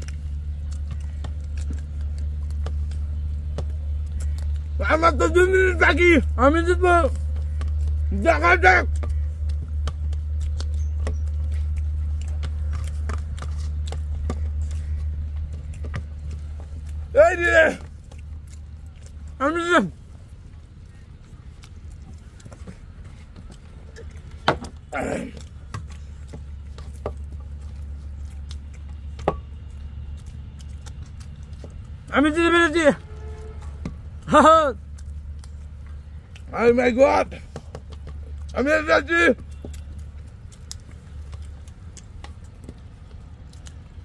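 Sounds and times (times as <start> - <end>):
steady low hum: 0.0 - 38.7
fingers squishing food on plates: 0.0 - 44.0
wet chewing and smacking: 0.0 - 44.0.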